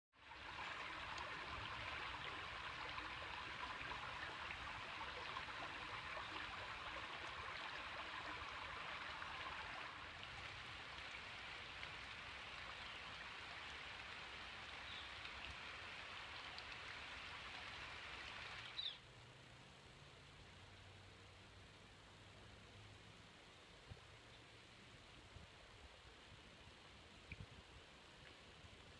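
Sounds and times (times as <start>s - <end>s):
stream water over rocks: 0.1s - 28.9s.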